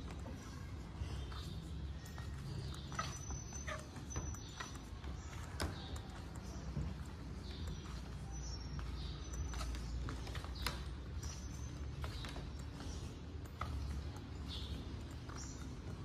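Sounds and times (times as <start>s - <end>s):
footsteps on wooden floorboards: 0.0s - 16.0s.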